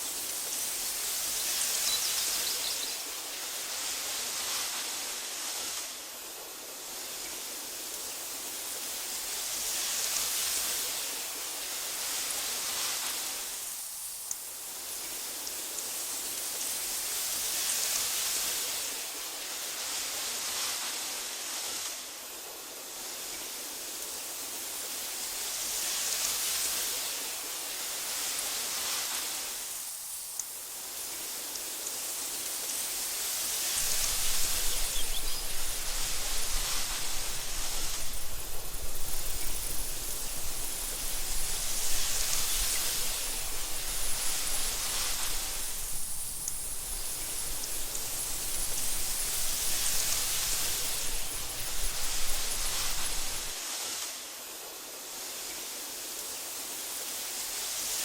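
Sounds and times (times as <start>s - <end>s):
wind through tall grass: 0.0s - 58.0s.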